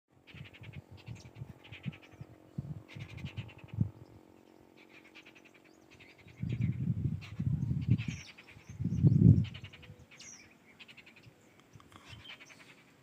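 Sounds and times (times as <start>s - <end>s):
birds chattering harsh rattling calls: 0.1s - 13.0s.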